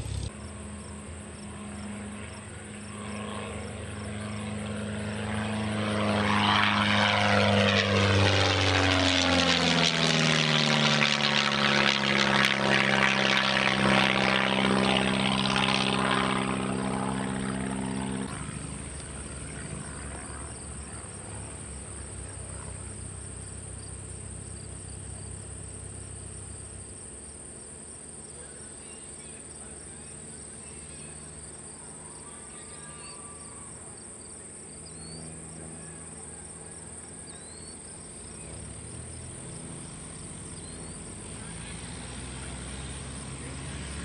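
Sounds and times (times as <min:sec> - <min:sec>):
plane engine idling: 0:00.0 - 0:44.0
crickets and insects chirping: 0:00.2 - 0:07.5, 0:15.7 - 0:44.0.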